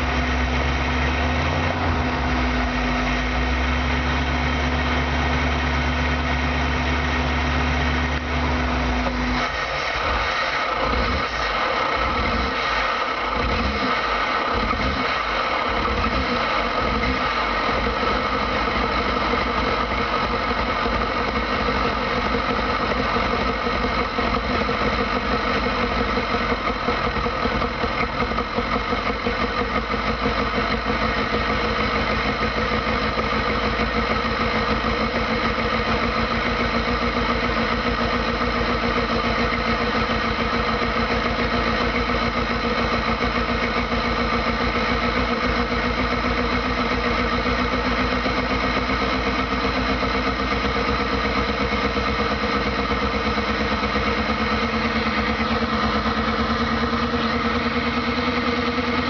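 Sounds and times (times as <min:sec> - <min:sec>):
van engine idling: 0:00.0 - 0:59.0.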